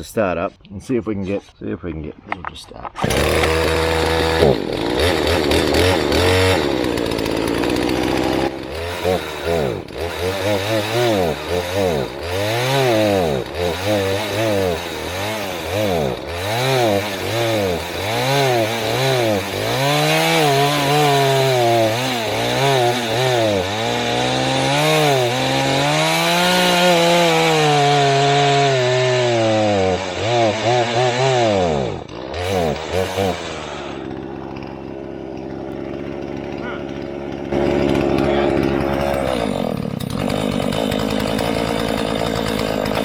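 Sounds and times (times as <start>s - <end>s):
chainsaw engine revving: 3.0s - 43.0s.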